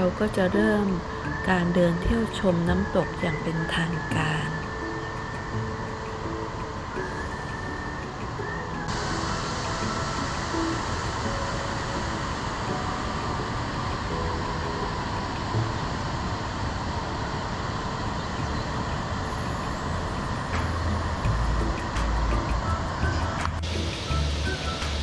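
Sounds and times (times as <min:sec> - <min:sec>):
waterfall roaring: 0:04.6 - 0:25.0.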